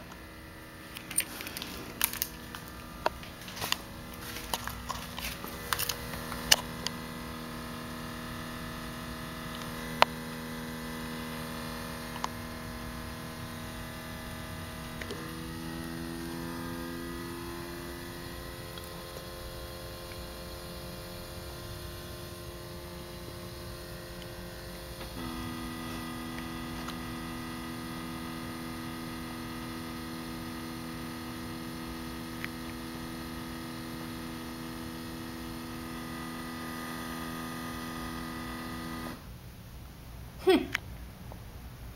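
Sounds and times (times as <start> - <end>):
electric pump buzzing hum: 0.0 - 40.6.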